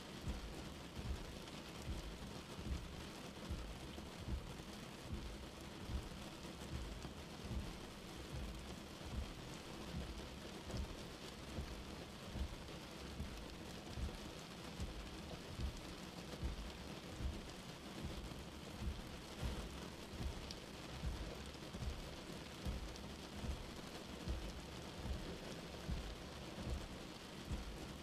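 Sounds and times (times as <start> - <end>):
rain on car windscreen: 0.0 - 28.0.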